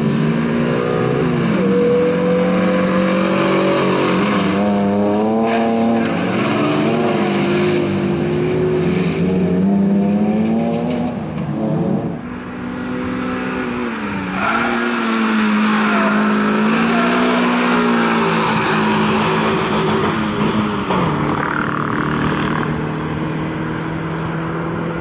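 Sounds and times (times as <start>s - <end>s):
car engine revving hard: 0.0s - 11.0s, 11.6s - 25.0s.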